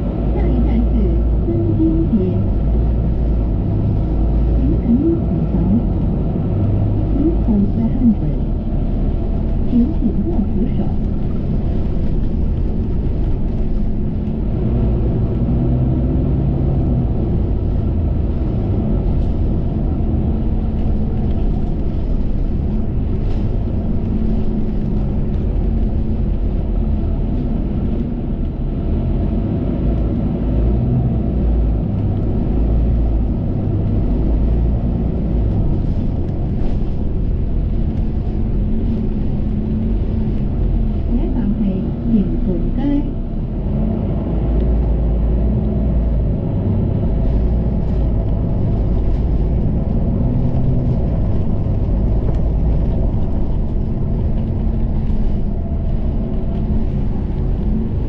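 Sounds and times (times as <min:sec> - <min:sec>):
bus engine drone: 0:00.0 - 0:58.0
road rumble: 0:00.0 - 0:58.0.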